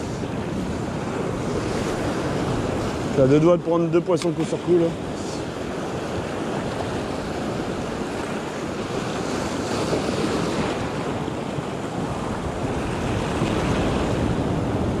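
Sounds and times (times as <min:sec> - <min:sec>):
sea surf washing around rocks: 0:00.0 - 0:15.0
wind buffeting microphone: 0:00.0 - 0:15.0.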